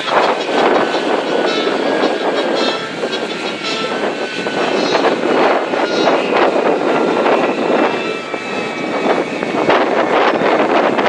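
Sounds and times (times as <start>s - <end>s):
faint high turbine whine: 0.0s - 11.0s
jet engine idling: 0.0s - 11.0s.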